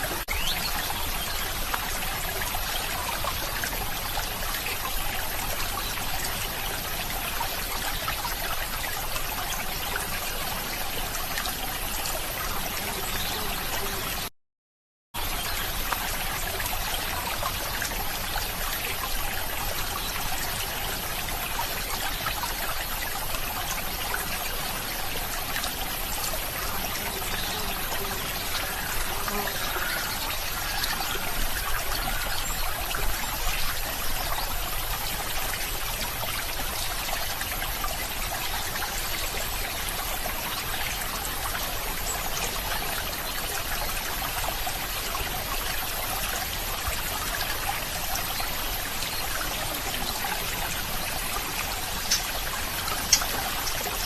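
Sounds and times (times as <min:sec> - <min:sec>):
stream water trickling: 0:00.0 - 0:14.3, 0:15.2 - 0:54.0.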